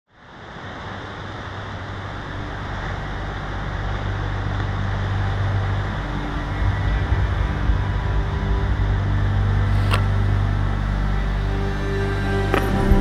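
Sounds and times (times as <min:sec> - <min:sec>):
surf washing on shore: 0:00.1 - 0:13.0
low hum: 0:00.2 - 0:13.0.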